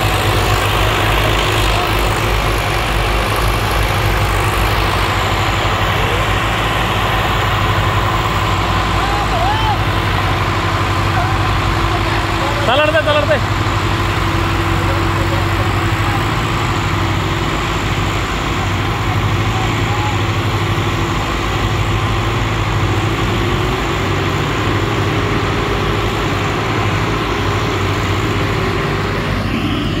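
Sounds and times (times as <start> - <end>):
tractor diesel engines idling: 0.0 - 30.0.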